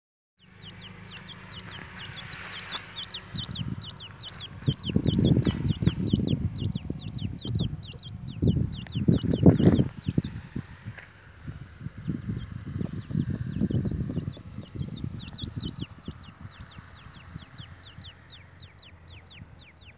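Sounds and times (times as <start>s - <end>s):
bird chick peeping: 0.4s - 19.9s
low muffled rumbles: 0.4s - 19.9s.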